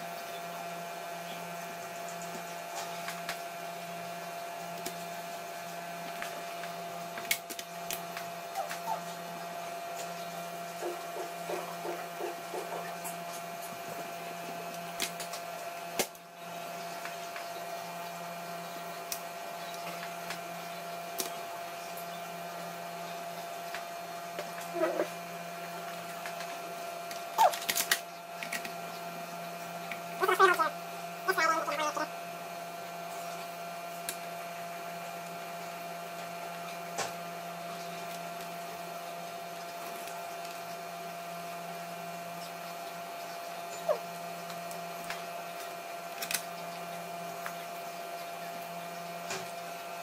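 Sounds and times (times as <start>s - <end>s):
steady hum: 0.0s - 50.0s.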